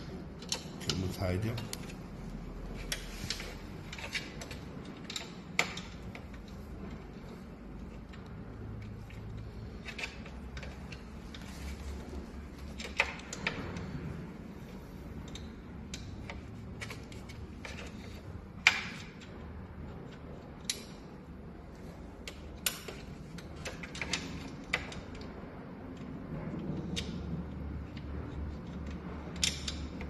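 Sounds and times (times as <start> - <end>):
low steady background noise: 0.0 - 30.0.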